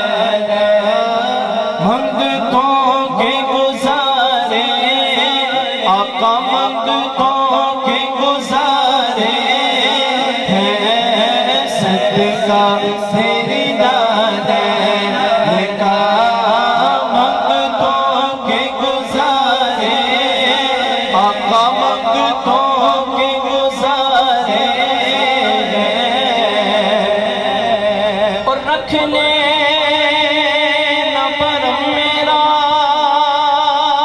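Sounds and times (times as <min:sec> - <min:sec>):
man singing into a microphone: 0:00.0 - 0:34.0.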